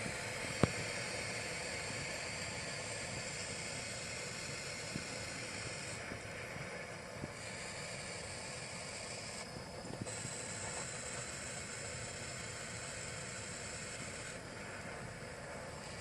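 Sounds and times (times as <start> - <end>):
blowtorch flame hissing: 0.0 - 16.0.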